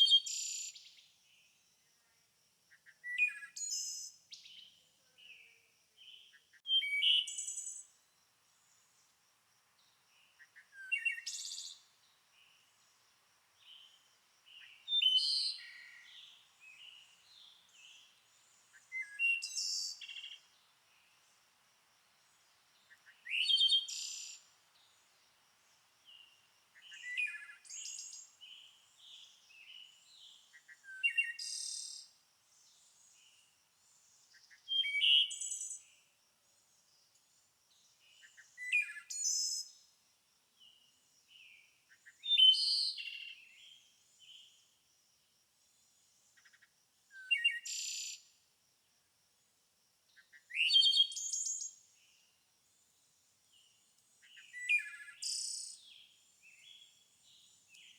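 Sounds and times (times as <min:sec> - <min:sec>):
songbird chirping: 0:00.0 - 0:44.9, 0:45.6 - 0:48.5, 0:50.1 - 0:57.9.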